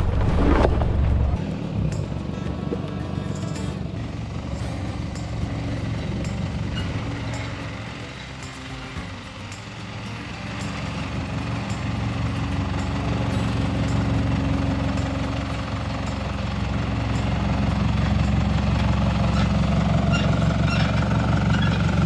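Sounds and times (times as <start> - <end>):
car engine running under load: 0.0 - 22.0.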